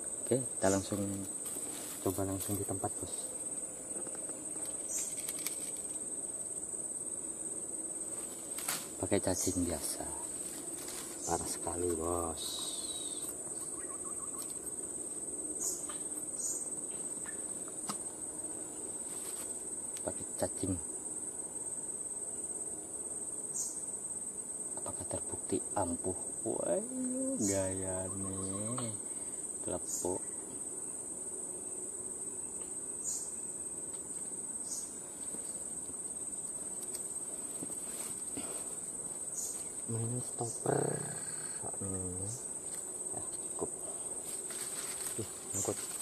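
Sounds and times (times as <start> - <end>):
insect trill: 0.0 - 46.0.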